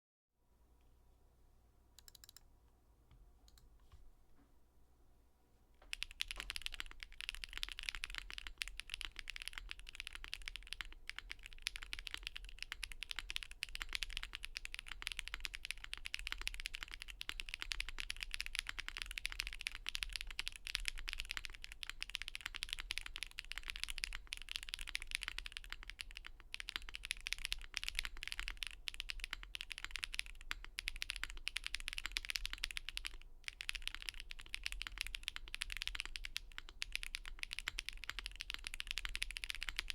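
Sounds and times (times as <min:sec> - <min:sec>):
fast mechanical keyboard typing: 0:02.0 - 0:02.4, 0:05.8 - 0:39.9.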